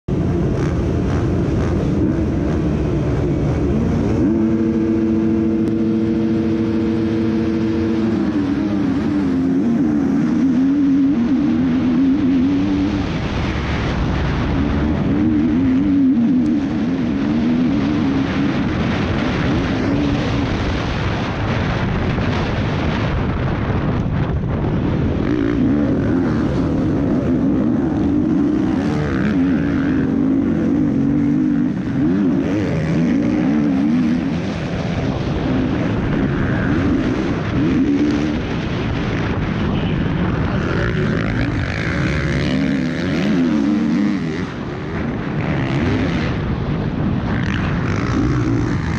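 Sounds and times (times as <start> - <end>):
motocross bike engine revving: 0.1 - 48.9.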